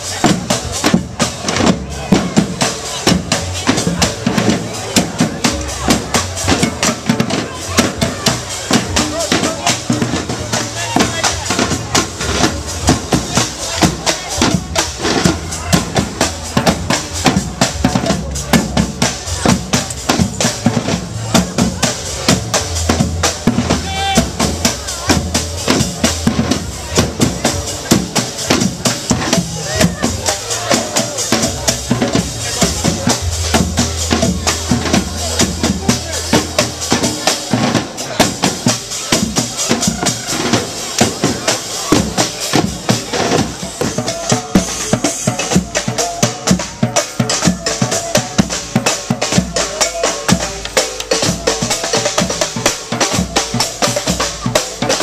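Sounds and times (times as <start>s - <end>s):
snare and bass drumming: 0.0s - 55.0s.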